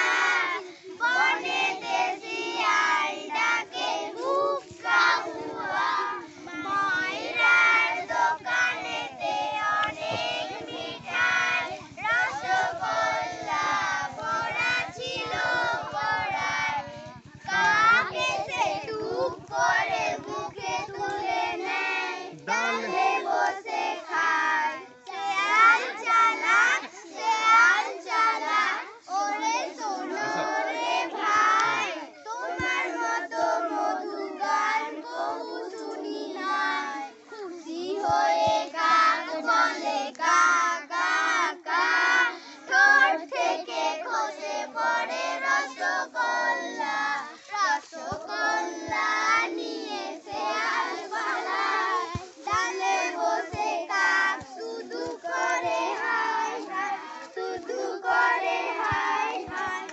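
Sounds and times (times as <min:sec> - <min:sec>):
girls chanting and singing: 0:00.0 - 0:59.9.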